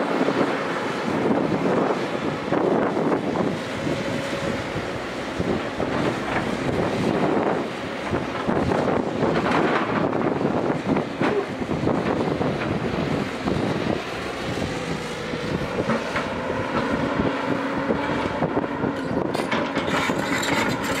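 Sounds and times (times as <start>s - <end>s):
excavator diesel engine under load: 0.0s - 21.0s
hydraulic whine: 1.1s - 21.0s.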